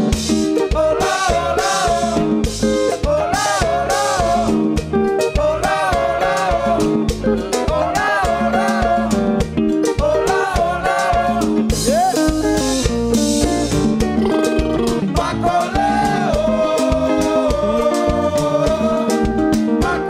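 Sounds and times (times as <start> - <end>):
live band playing: 0.0 - 20.0
man singing lead: 0.6 - 12.6, 15.1 - 20.0.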